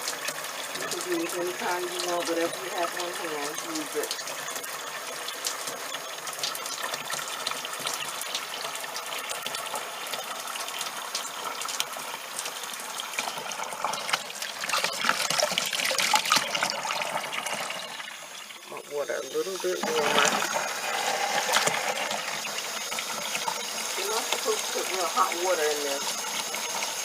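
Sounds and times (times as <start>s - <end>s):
water pouring into a tub: 0.0s - 27.0s.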